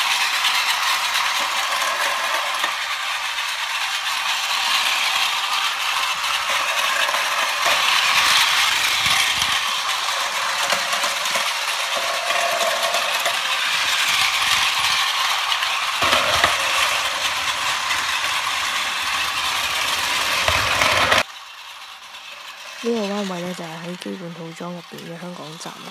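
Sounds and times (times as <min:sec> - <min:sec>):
plastic wheels clattering on track: 0:00.0 - 0:25.9
toy train motor whirring: 0:00.0 - 0:25.9.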